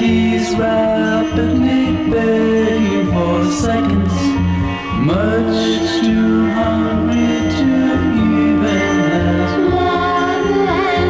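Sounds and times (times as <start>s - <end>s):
song with band accompaniment: 0.0s - 11.0s.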